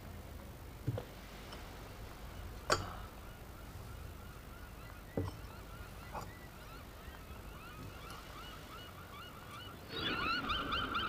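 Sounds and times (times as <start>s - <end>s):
low outdoor hum: 0.0s - 11.0s
faint chirping: 1.7s - 11.0s.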